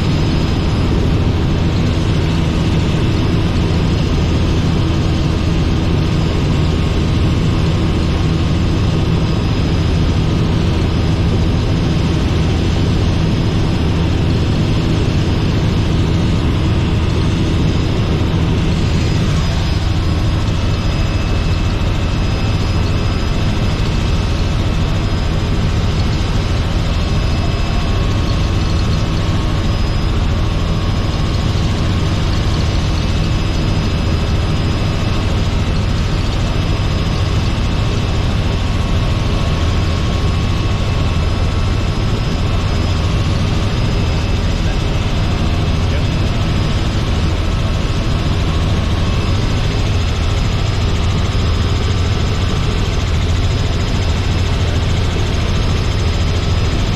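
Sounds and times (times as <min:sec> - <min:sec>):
helicopter engine and rotors drone: 0:00.0 - 0:56.9.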